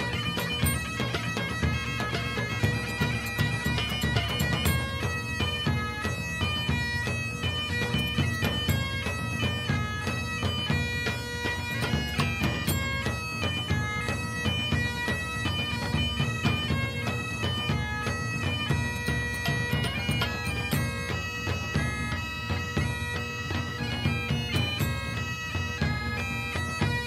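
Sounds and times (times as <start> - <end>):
bagpipe music: 0.0 - 27.0.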